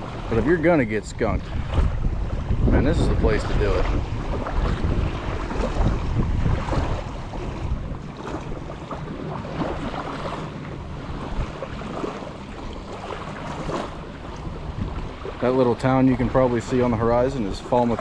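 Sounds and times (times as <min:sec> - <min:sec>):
surf washing on beach: 0:00.0 - 0:18.0
wind buffeting microphone: 0:00.0 - 0:18.0.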